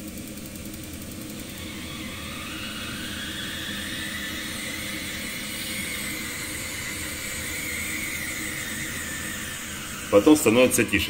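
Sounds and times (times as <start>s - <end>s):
boiler hum and hiss: 0.0s - 11.0s
gas boiler whistling: 1.1s - 11.0s.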